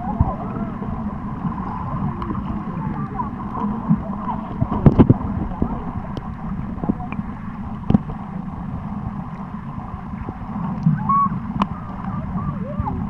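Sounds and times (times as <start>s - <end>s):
underwater low rumble: 0.0s - 13.0s.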